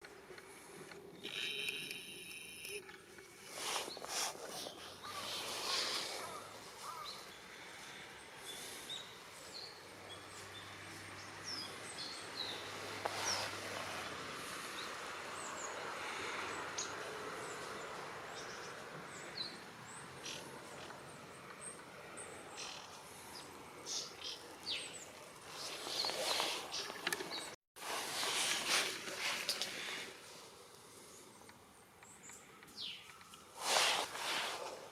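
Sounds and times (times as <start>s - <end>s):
outdoor background noise: 0.0s - 34.9s.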